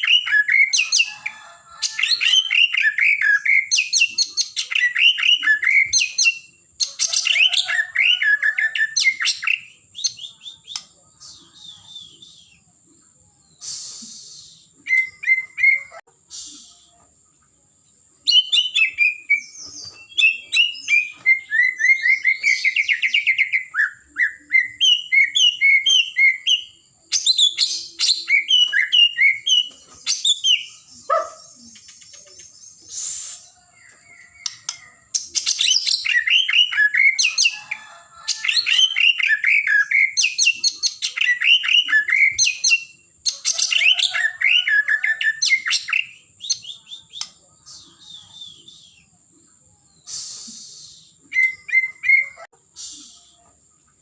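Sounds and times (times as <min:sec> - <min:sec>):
bird singing whistled trills: 0:00.0 - 0:01.3, 0:02.1 - 0:17.0, 0:18.2 - 0:53.6.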